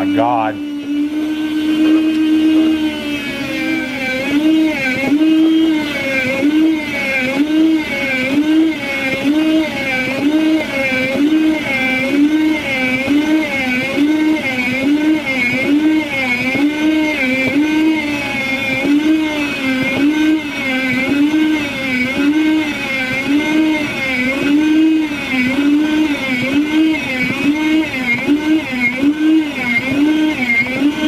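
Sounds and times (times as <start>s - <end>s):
food slicer motor hum: 0.0s - 31.0s.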